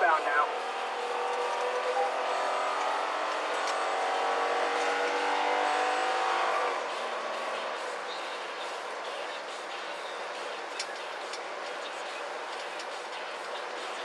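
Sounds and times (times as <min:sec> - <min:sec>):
car engine accelerating: 0:00.0 - 0:14.0
tyre and road noise: 0:00.0 - 0:14.0.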